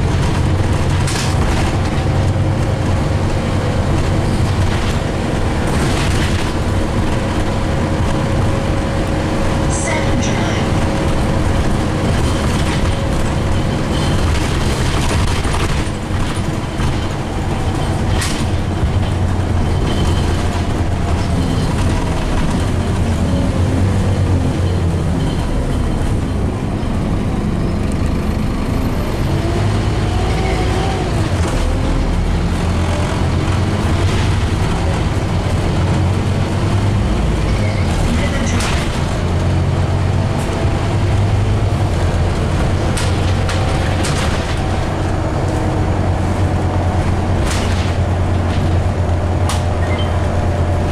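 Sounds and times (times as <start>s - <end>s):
bus diesel engine under load: 0.0s - 50.9s
road and tyre noise: 0.0s - 50.9s.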